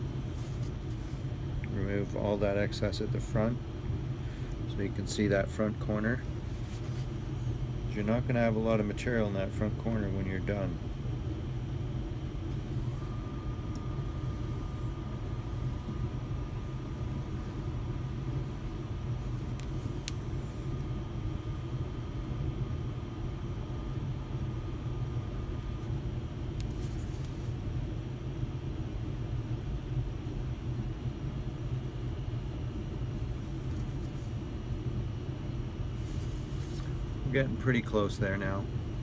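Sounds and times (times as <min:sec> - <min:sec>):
thin high whine: 0:00.0 - 0:28.6, 0:30.1 - 0:39.0
low machinery hum: 0:00.0 - 0:39.0.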